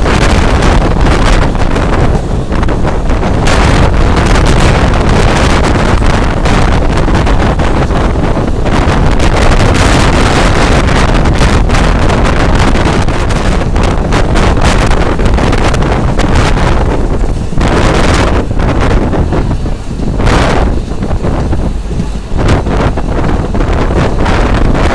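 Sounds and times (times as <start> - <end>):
passenger train rumbling: 0.0 - 24.9
wind buffeting microphone: 0.0 - 24.9.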